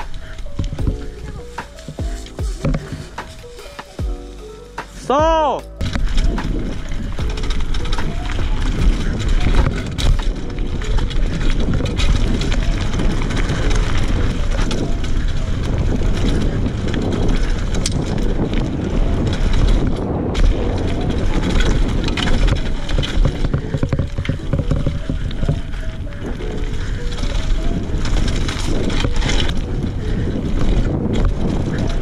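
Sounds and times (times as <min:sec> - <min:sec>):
wind buffeting microphone: 0:00.0 - 0:04.8, 0:05.8 - 0:32.0
bike rattling over bumps: 0:00.0 - 0:32.0
bike tyres rolling over dirt: 0:00.0 - 0:32.0.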